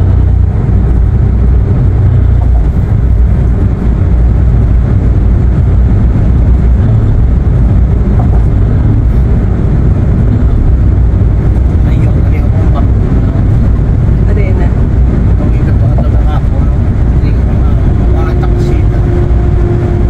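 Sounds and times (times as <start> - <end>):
van road and engine rumble: 0.0 - 20.0.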